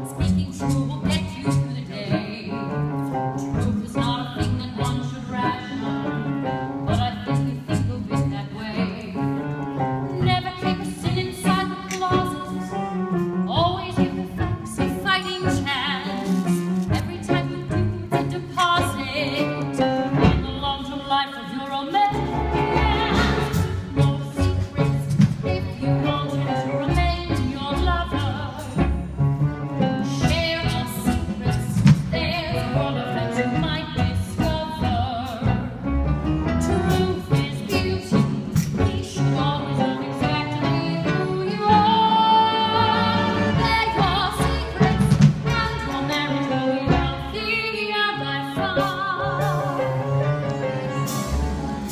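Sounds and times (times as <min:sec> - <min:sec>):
orchestral accompaniment: 0:00.0 - 0:51.9.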